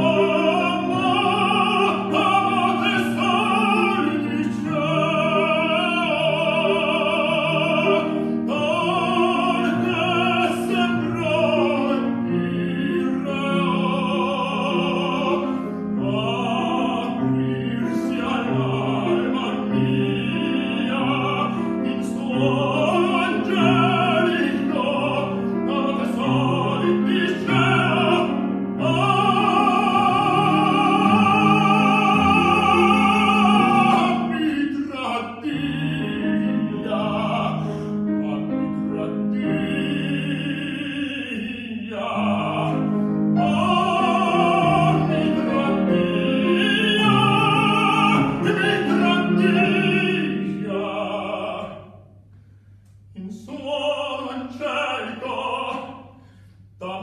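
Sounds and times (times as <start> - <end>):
operatic tenor singing: 0.0 - 52.0, 53.2 - 56.2, 56.8 - 57.0
grand piano: 0.0 - 57.0.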